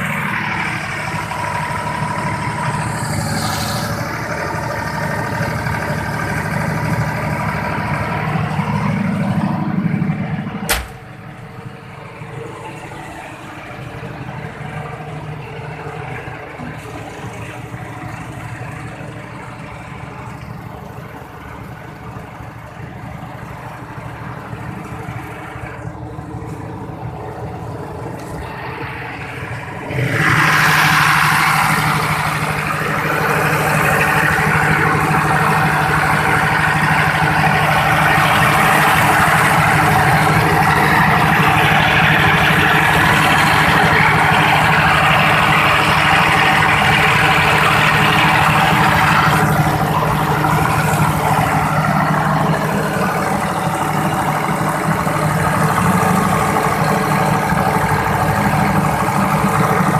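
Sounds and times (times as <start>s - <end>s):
diesel generator humming: 0.0s - 59.9s.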